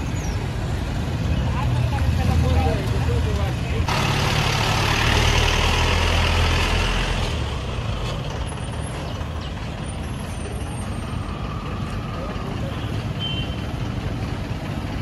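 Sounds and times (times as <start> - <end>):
loud rushing road and exhaust noise: 0.0 - 15.0
vehicle engine running: 1.9 - 15.0.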